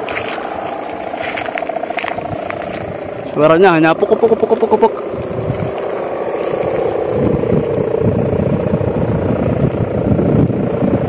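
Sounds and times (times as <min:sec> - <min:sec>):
kite hummer droning: 0:00.0 - 0:11.0
rough fluttering low drone: 0:00.0 - 0:11.0.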